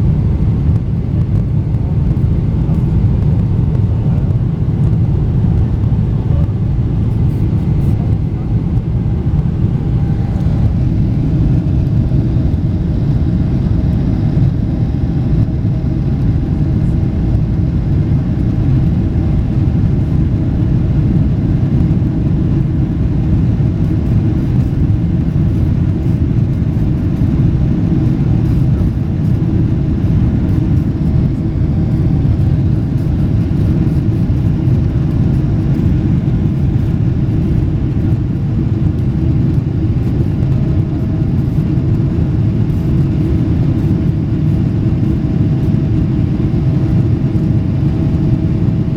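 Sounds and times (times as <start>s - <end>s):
jet engines at takeoff power: 0.0s - 48.9s.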